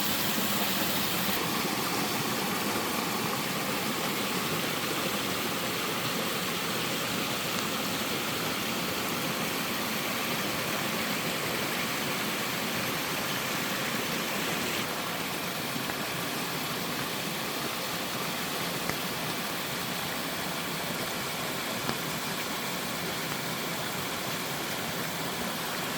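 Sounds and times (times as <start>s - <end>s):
water rushing over rock: 0.0s - 25.9s.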